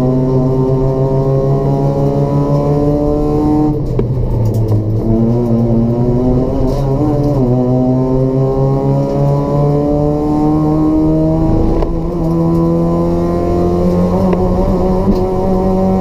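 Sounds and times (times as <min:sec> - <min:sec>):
car engine revving under full throttle: 0:00.0 - 0:16.0.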